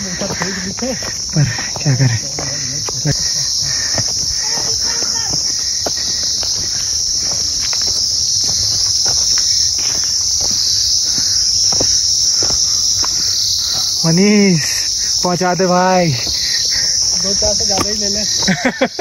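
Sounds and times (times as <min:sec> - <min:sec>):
footsteps on stony trail: 0:00.0 - 0:19.0
insects shrilling: 0:00.0 - 0:19.0.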